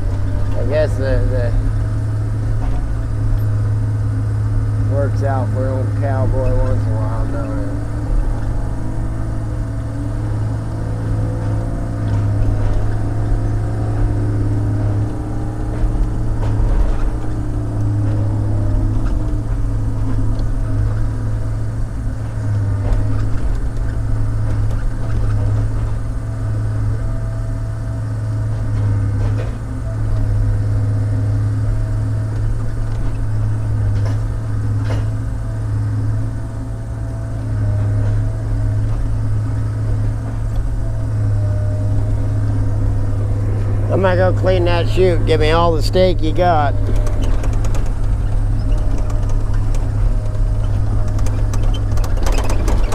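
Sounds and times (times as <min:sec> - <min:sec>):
diesel engine running hard: 0:00.0 - 0:52.9.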